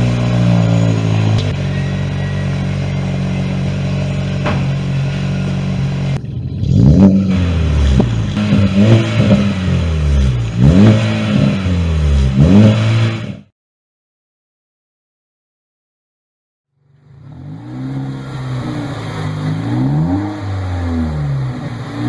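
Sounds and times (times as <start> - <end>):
car engine idling and revving: 0.0 - 13.5, 16.8 - 22.0.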